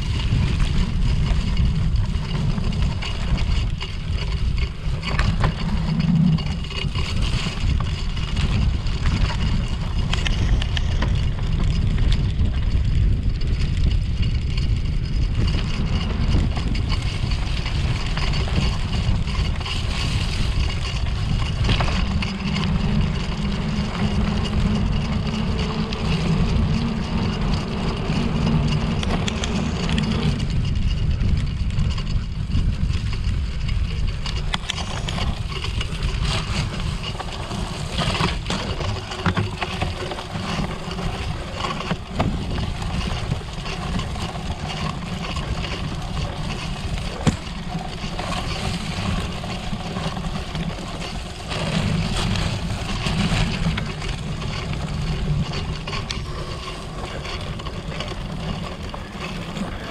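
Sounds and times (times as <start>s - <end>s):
bike rattling: 0.0s - 59.9s
wind rumbling on microphone: 0.0s - 59.9s.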